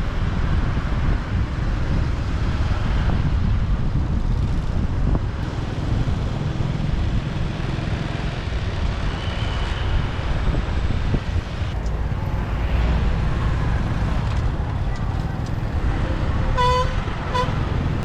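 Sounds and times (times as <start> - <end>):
road noise: 0.0 - 18.0
wind on microphone: 0.0 - 18.0.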